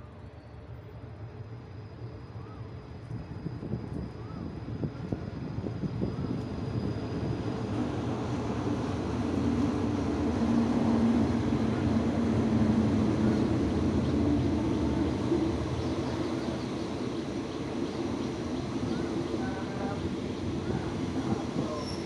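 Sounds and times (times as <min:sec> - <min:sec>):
diesel locomotive engine drone: 0:00.0 - 0:22.0
train coaches rumbling on rails: 0:00.0 - 0:22.0.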